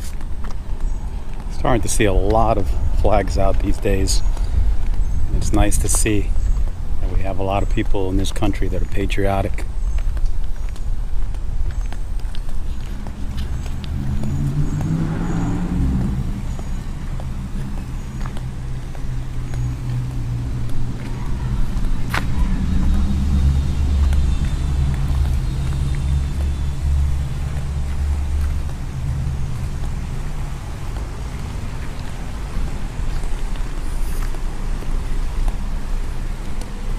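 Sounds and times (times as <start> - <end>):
van engine and road rumble: 0.0 - 36.9.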